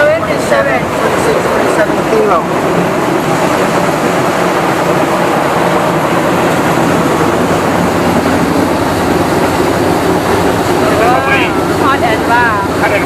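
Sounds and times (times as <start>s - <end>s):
low hum: 0.0s - 13.0s
milling machinery running: 0.0s - 13.0s.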